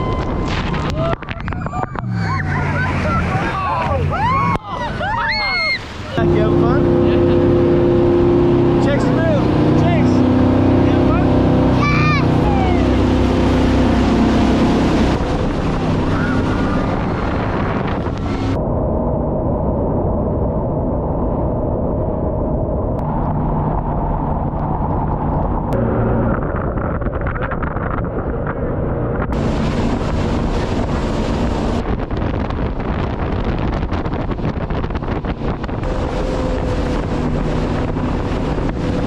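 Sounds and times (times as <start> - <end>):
boat engine running: 0.0 - 39.0
wind buffeting microphone: 0.0 - 39.0.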